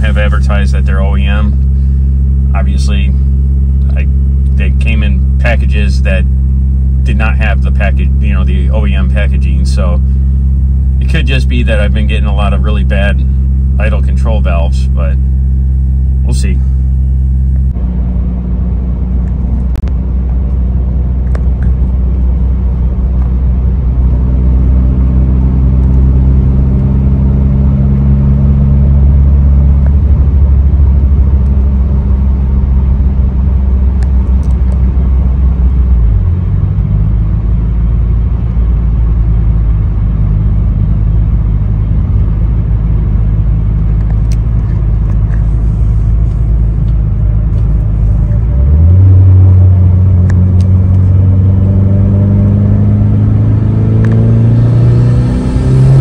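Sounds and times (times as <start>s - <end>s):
car engine from inside cabin: 0.0s - 56.0s
road noise: 0.0s - 56.0s.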